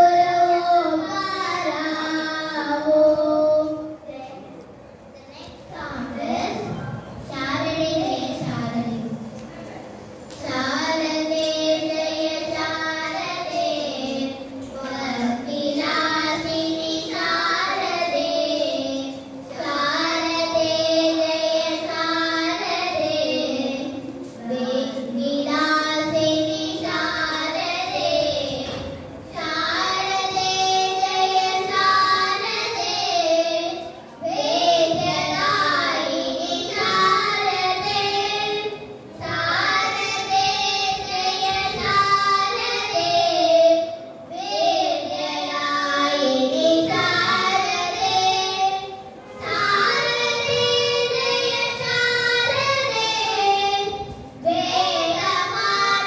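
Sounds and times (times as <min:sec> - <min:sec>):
girls singing a classical duet: 0:00.0 - 0:56.0.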